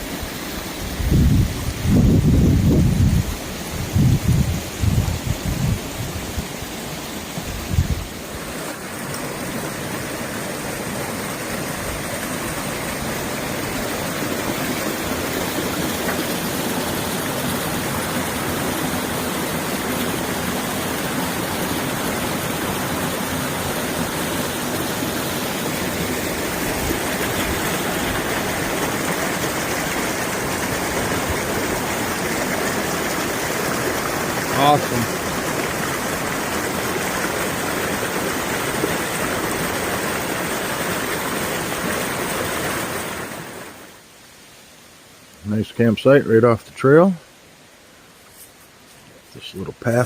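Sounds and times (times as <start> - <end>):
stream water flowing: 0.0 - 50.0.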